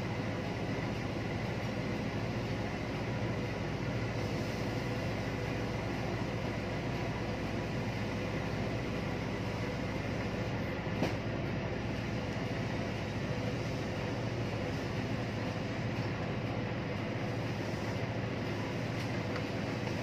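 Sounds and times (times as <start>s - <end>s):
machinery drone with hum tones: 0.0s - 20.0s.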